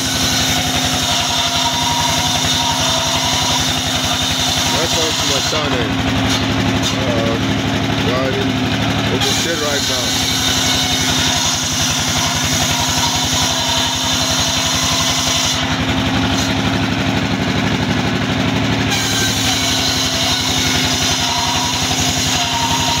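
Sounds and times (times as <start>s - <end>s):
bench saw motor droning: 0.0s - 23.0s.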